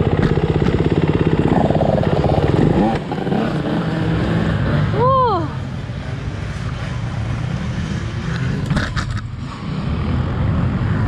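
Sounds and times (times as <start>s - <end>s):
dirt bike engines rumbling: 0.0s - 11.0s.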